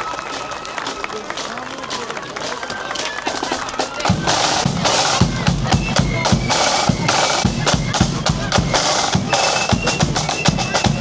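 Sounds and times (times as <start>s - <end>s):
snare drum beats and rolls: 0.1s - 11.0s.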